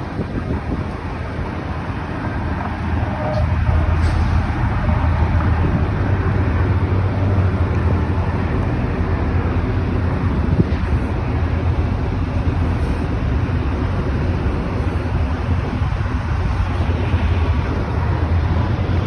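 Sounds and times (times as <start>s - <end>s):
road and traffic noise: 0.0s - 19.0s.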